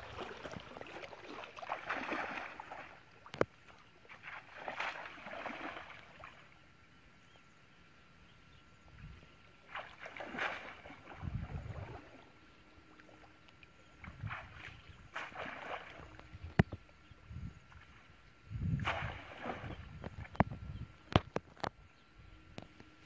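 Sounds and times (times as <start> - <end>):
water splashing and sloshing: 0.0 - 6.7, 9.0 - 21.8.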